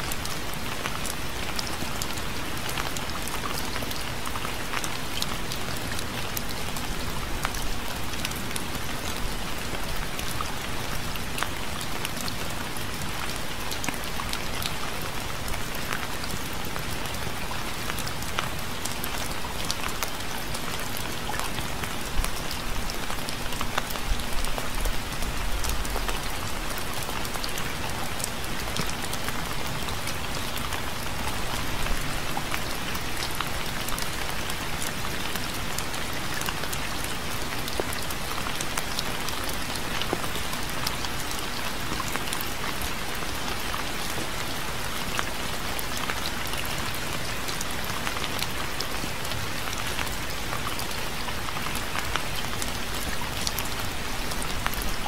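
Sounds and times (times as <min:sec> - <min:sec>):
rain on a hard surface: 0:00.0 - 0:55.0.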